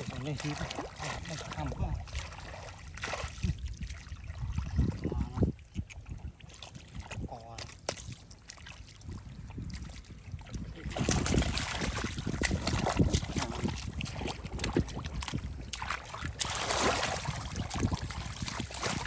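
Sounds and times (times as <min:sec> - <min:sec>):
splashing in shallow water: 0:00.0 - 0:19.0.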